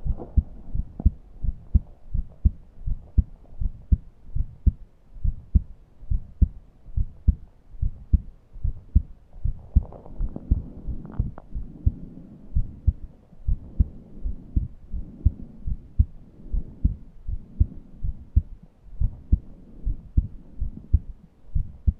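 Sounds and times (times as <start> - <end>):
heartbeat thumps: 0.0 - 21.9.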